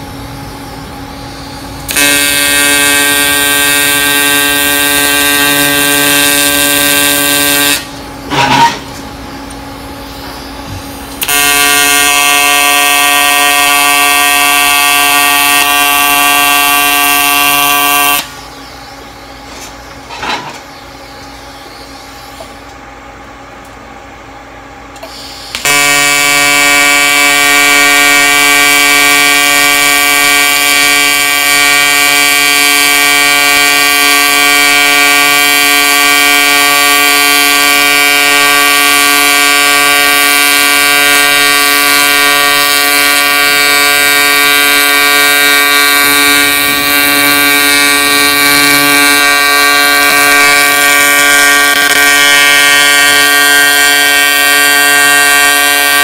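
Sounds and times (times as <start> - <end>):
welding arc buzzing: 0.0 - 22.8, 24.9 - 56.0.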